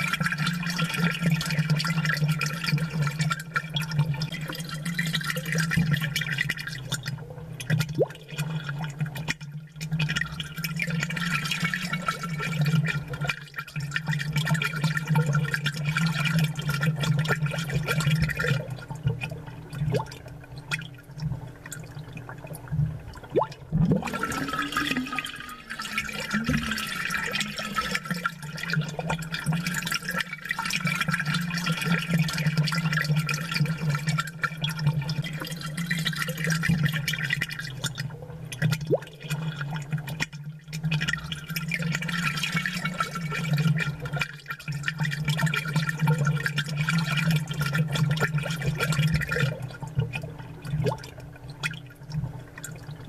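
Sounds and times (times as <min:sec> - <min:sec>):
aquarium water bubbling: 0:00.0 - 0:53.0
pump humming: 0:00.0 - 0:53.0.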